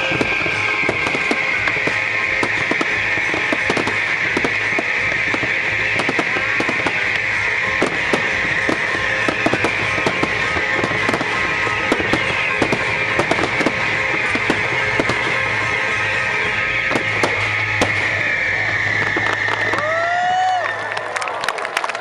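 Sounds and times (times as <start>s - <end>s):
music soundtrack: 0.0s - 21.4s
fireworks crackling and popping: 0.0s - 22.0s.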